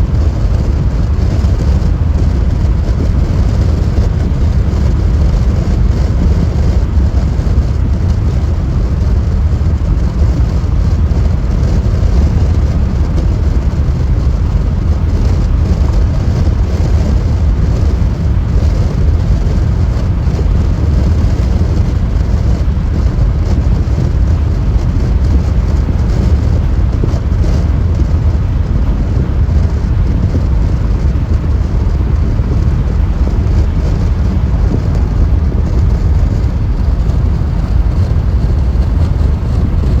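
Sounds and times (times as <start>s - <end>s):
tyre and road rumble: 0.0s - 40.0s.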